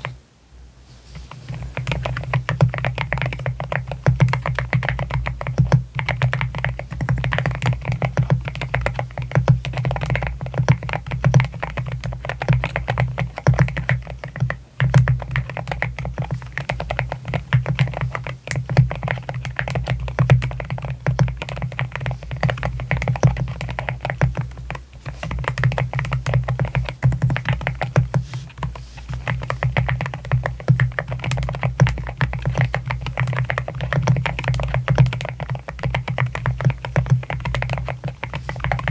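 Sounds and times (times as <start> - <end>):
fast mechanical keyboard typing: 1.4 - 38.9.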